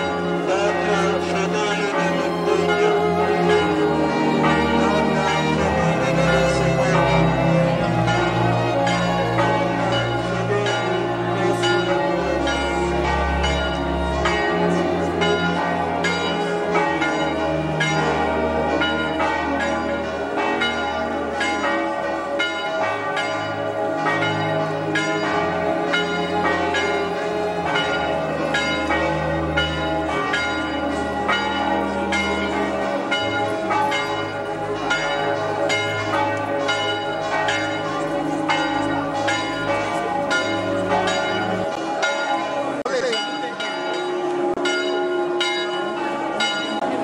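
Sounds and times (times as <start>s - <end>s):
church bells pealing: 0.0s - 47.0s.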